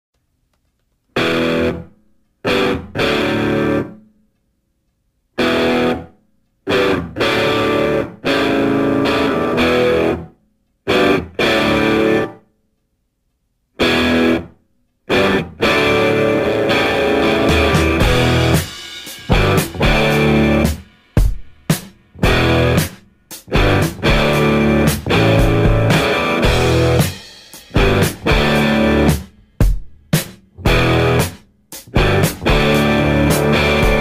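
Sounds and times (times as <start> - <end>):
distorted electric guitar chords: 1.2 - 4.0, 5.4 - 6.1, 6.7 - 10.3, 10.9 - 12.4, 13.8 - 14.5, 15.1 - 29.8, 30.6 - 34.0.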